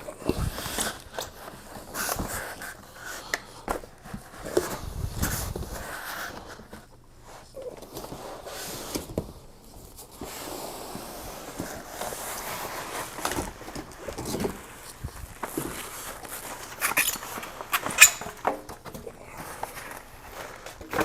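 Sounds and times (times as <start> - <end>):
plastic and cardboard rustling: 0.0 - 21.0.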